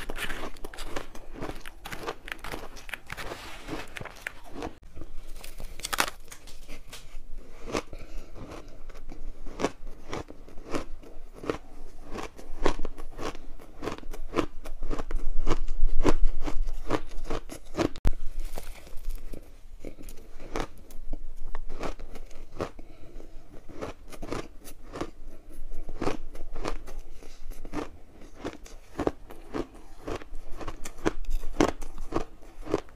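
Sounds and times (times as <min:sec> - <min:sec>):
ice crunching while chewed: 0:00.0 - 0:32.9.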